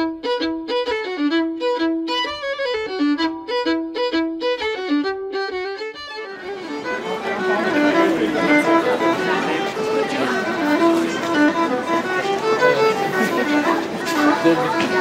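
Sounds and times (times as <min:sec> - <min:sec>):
solo fiddle folk tune: 0:00.0 - 0:15.0
street noise: 0:00.0 - 0:15.0.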